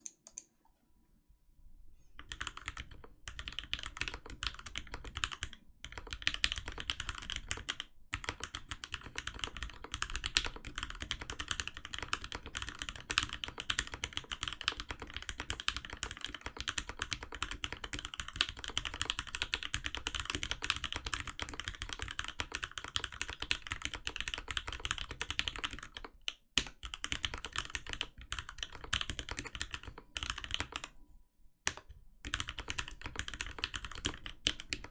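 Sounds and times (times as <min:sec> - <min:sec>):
fast typing on mechanical keyboard: 0:02.2 - 0:30.9, 0:31.7 - 0:34.9.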